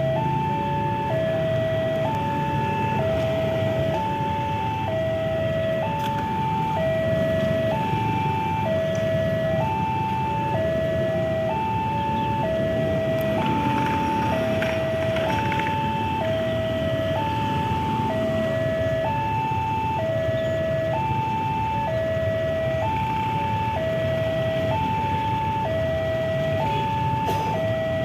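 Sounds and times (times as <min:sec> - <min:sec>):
level crossing two-tone alarm: 0:00.0 - 0:02.2, 0:02.9 - 0:28.0
low rumble of road traffic: 0:00.0 - 0:28.0.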